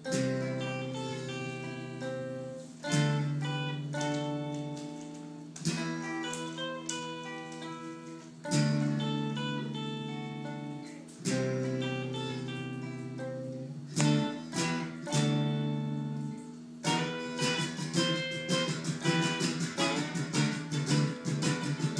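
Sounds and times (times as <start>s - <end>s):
acoustic guitar strumming: 0.0s - 21.9s.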